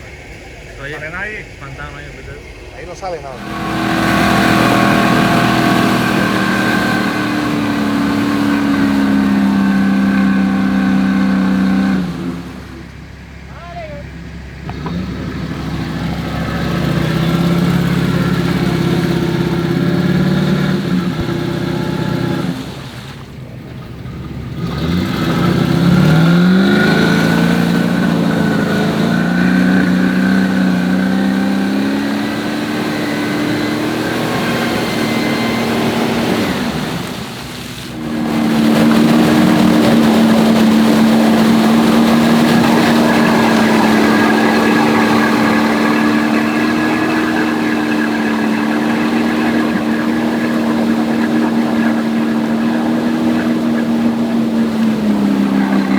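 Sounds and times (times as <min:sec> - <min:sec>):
engine revving under load: 0:00.0 - 0:55.9.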